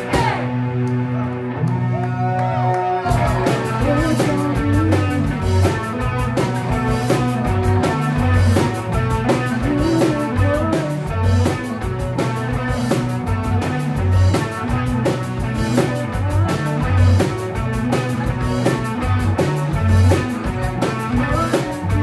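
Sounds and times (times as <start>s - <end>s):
drum kit beat with cymbals: 0.0s - 0.6s, 3.1s - 22.0s
bass guitar: 0.0s - 22.0s
electric guitar: 0.0s - 22.0s.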